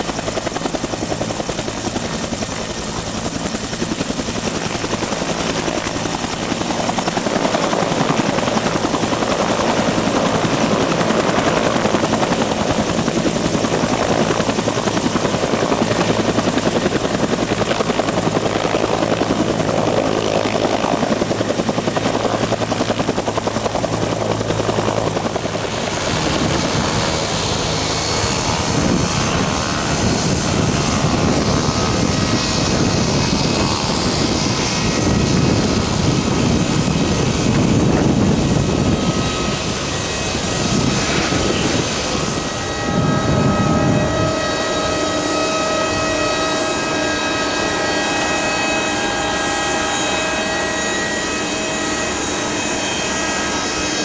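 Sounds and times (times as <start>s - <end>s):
helicopter rotor and turbines: 0.0s - 54.0s
propeller plane engine running: 0.0s - 54.0s
thin high turbine whine: 0.0s - 54.0s.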